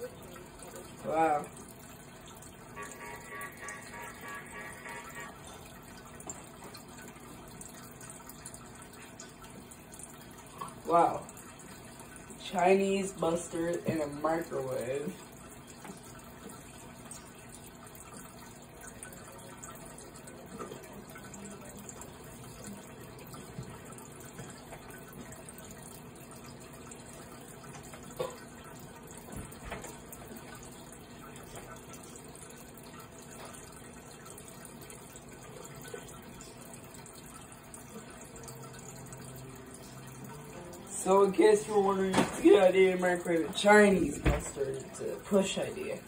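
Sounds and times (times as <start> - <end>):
microwave oven hum: 0.0 - 46.0.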